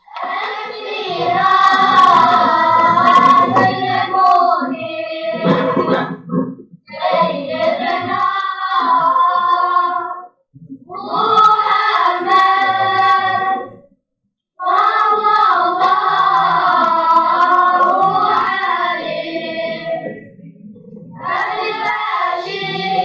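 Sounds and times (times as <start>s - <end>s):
children's vocal group singing: 0.0s - 13.8s, 14.6s - 23.0s.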